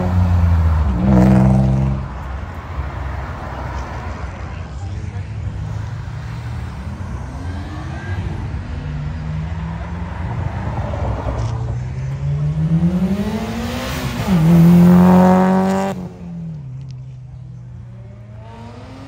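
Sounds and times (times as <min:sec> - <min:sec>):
cars accelerating hard: 0:00.0 - 0:04.5, 0:05.4 - 0:16.9, 0:17.6 - 0:19.0.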